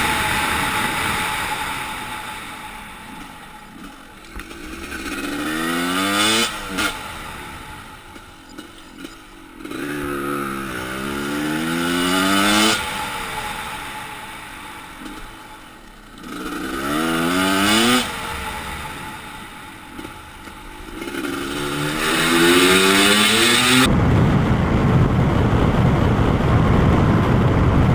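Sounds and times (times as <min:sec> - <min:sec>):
motorcycle engine accelerating: 0:00.0 - 0:27.9.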